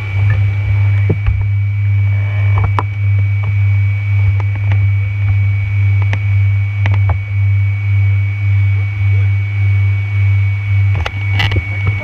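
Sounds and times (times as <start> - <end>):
faint high whine: 0.0 - 12.0
low hum: 0.0 - 12.0.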